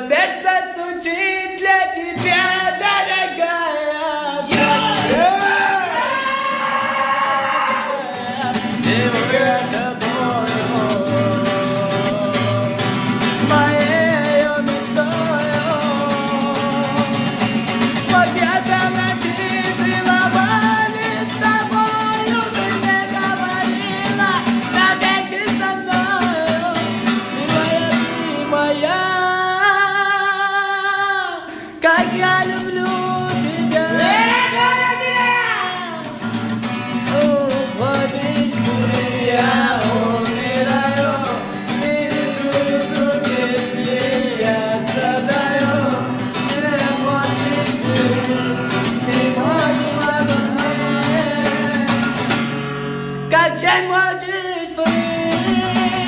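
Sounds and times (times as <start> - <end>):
song with sung vocals and guitar: 0.0 - 56.0.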